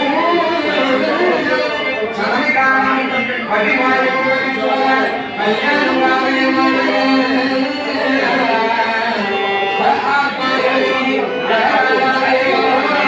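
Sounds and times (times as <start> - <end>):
devotional singing: 0.0 - 13.0
instrumental accompaniment: 0.0 - 13.0.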